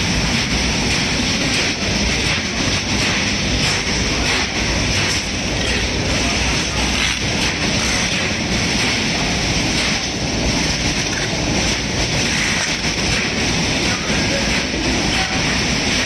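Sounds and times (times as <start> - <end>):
factory machinery din: 0.0 - 16.0.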